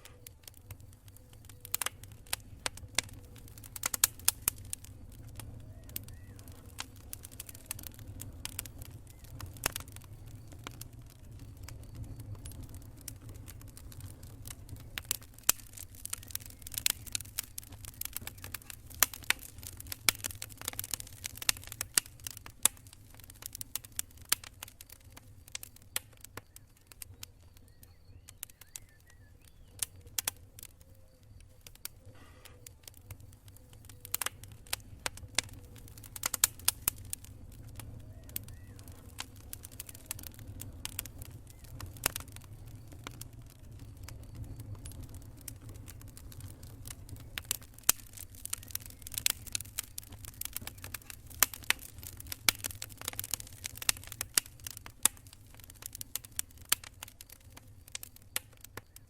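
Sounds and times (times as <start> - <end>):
campfire popping and snapping: 0.0 - 59.0
low fire rumble: 0.0 - 59.0.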